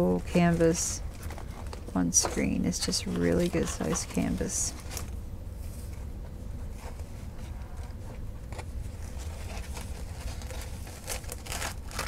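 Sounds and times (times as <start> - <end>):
plastic film rustling: 0.0 - 6.0, 6.6 - 12.0.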